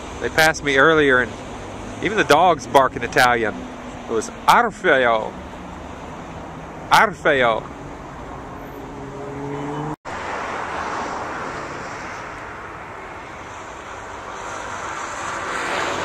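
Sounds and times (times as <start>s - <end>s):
passing cars: 0.0s - 16.0s
vehicle engine humming: 0.0s - 16.0s.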